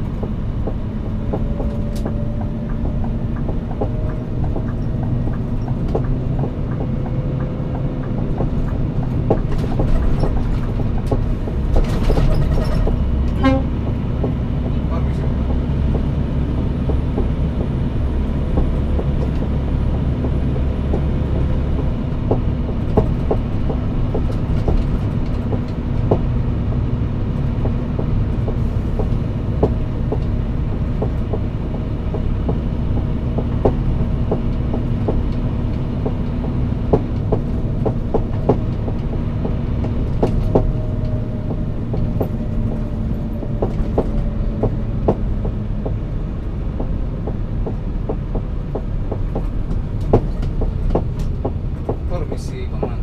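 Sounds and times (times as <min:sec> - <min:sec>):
knocks and rattles: 0:00.0 - 0:53.0
truck engine hum: 0:00.0 - 0:53.0.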